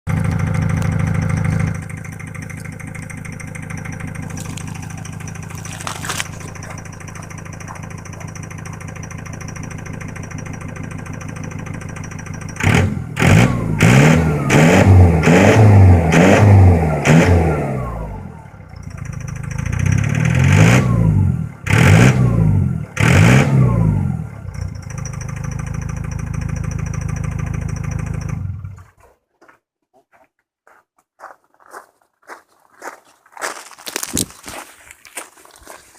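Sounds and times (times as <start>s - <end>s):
van engine revving: 0.1s - 29.0s.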